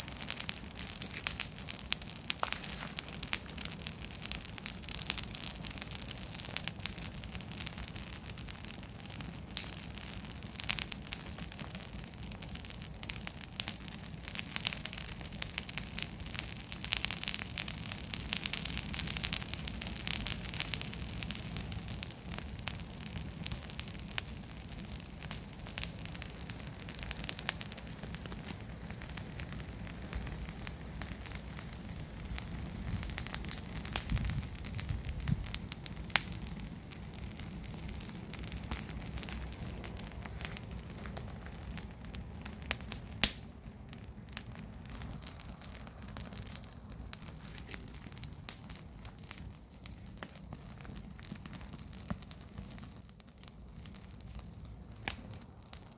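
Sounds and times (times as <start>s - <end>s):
bonfire crackling and popping: 0.0s - 55.9s.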